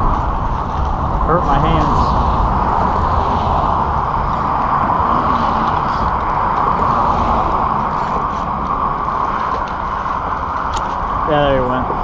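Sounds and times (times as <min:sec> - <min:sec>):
road traffic hiss: 0:00.0 - 0:12.0
wind rumble on microphone: 0:00.0 - 0:12.0.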